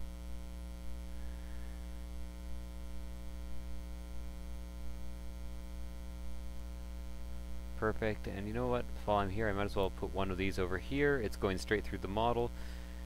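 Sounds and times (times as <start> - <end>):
electrical buzz: 0.0 - 13.0
electrical mains hum: 0.0 - 13.0.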